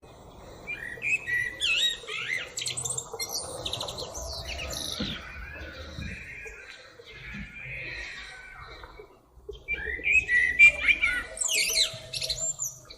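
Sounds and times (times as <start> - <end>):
songbird singing whistles and trills: 0.6 - 8.4, 9.5 - 12.9.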